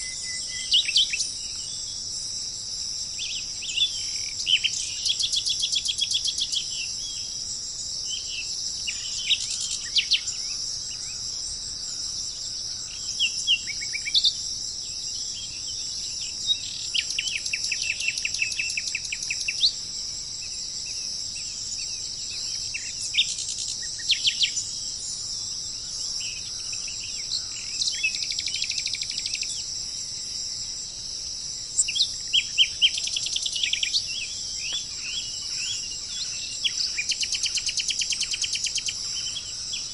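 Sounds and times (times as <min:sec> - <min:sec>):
insect chorus: 0:00.0 - 0:39.9
songbirds chirping and trilling: 0:00.0 - 0:39.9.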